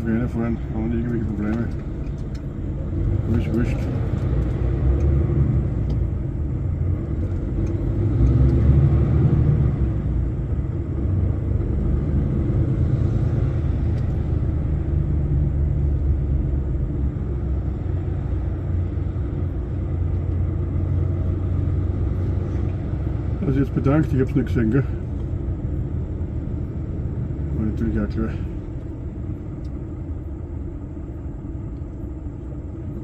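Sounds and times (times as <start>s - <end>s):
lorry engine rumbling: 0.0s - 33.0s.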